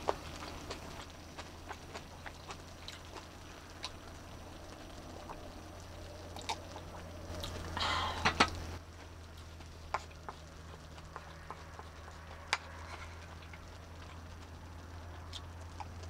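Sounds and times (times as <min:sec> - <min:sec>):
low steady hum: 0:00.0 - 0:16.0
rustling: 0:00.0 - 0:16.0.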